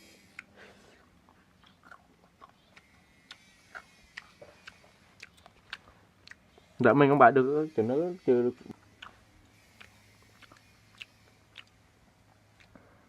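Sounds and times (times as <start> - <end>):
person chewing with crunches: 0.2 - 6.9, 8.6 - 13.0.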